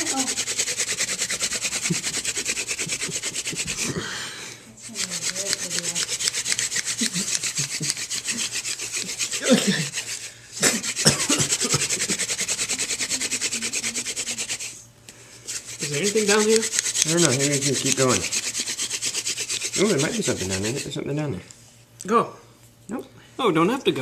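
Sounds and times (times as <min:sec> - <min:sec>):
hand drill rubbing on wood: 0:00.0 - 0:04.0, 0:04.8 - 0:21.0.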